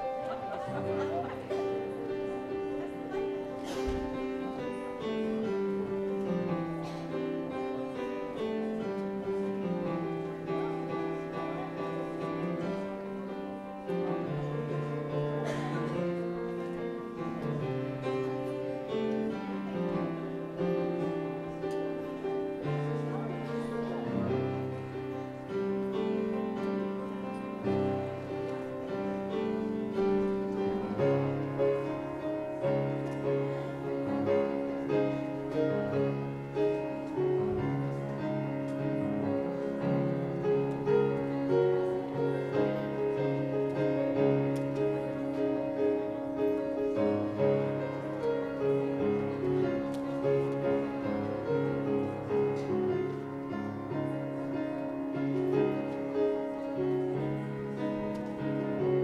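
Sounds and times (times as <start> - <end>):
grand piano playing: 0.0 - 59.0.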